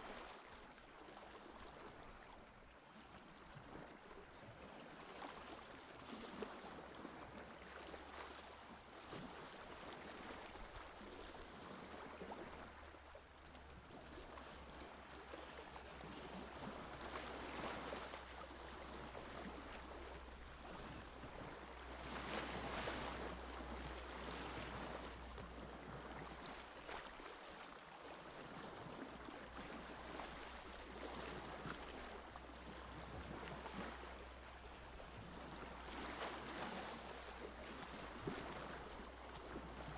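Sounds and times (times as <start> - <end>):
sea waves lapping on shore: 0.0 - 39.9.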